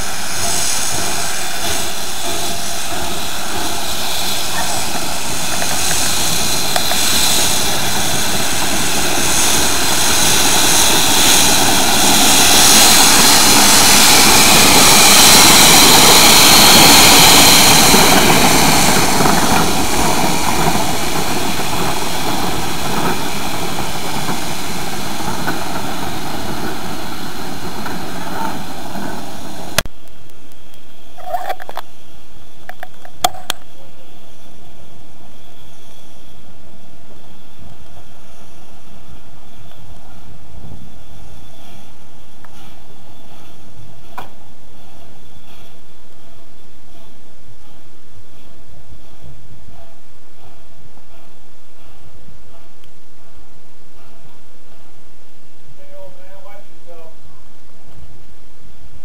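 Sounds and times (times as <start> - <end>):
steam hissing: 0.0 - 29.9, 33.4 - 59.0.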